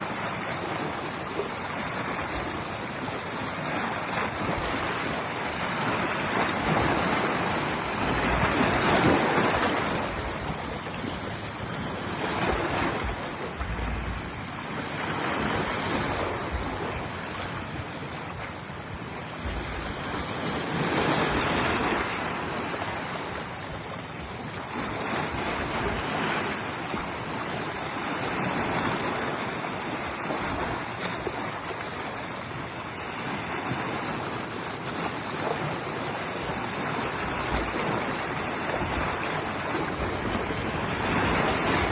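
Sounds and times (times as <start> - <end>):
wind on microphone: 0.0 - 32.2, 33.0 - 41.9
ocean waves breaking: 0.0 - 41.9.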